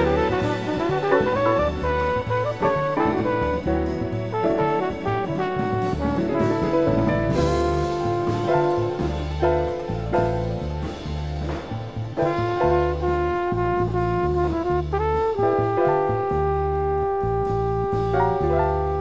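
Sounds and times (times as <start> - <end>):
trumpet playing slow melody: 0.0 - 10.5, 12.1 - 19.0
walking acoustic bass: 0.0 - 19.0.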